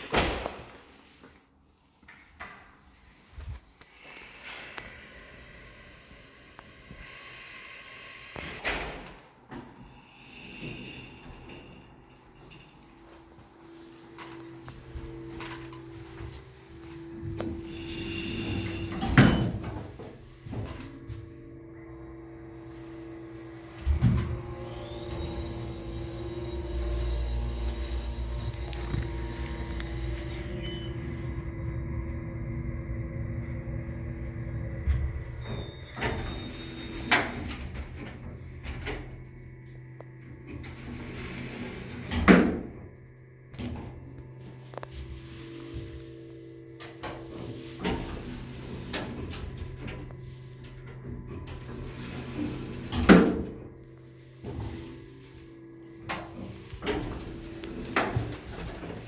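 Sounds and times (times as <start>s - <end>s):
electrical hum: 9.7s - 59.0s
machinery low rumble: 11.5s - 59.0s.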